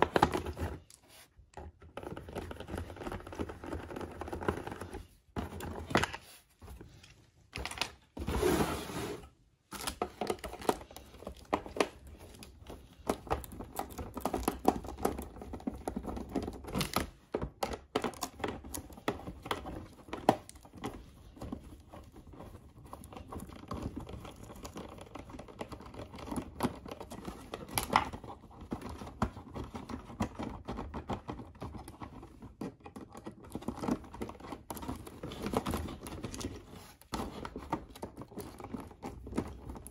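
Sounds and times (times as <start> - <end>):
cardboard rustling: 0.0 - 39.9.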